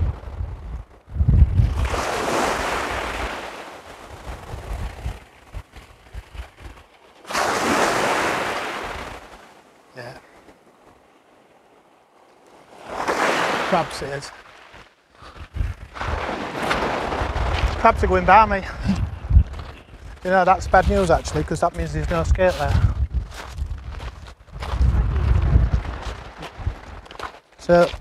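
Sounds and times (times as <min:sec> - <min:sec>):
wind buffeting microphone: 0:00.0 - 0:11.8, 0:14.7 - 0:28.0
waves washing on shingle: 0:00.9 - 0:18.9, 0:19.5 - 0:22.9, 0:25.5 - 0:28.0.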